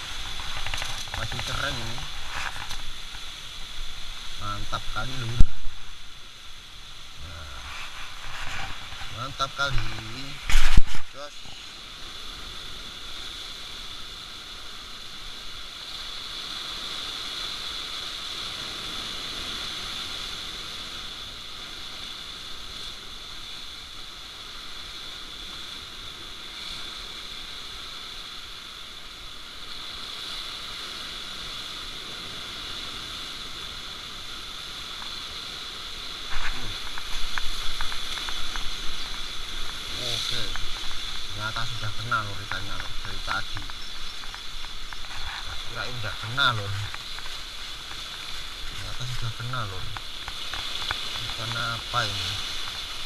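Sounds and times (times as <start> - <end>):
waves breaking on rocks: 0.0 - 53.0.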